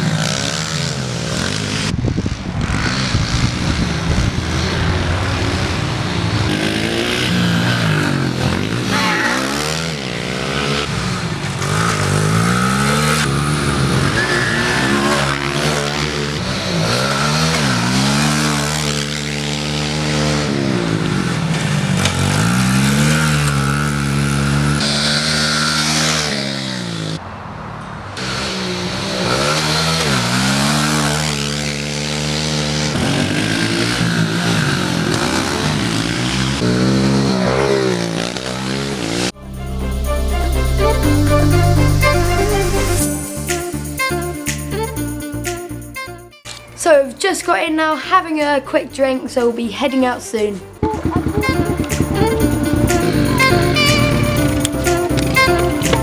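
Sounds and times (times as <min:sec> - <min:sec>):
pit bike engine revving: 0:00.0 - 0:27.2, 0:28.1 - 0:45.0, 0:50.8 - 0:56.0.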